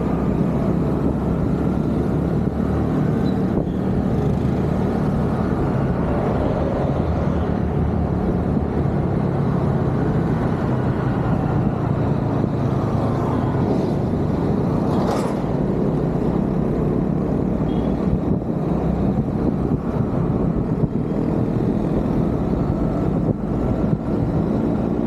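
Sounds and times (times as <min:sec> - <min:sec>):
city traffic: 0:00.0 - 0:25.0
wind rush: 0:00.0 - 0:25.0.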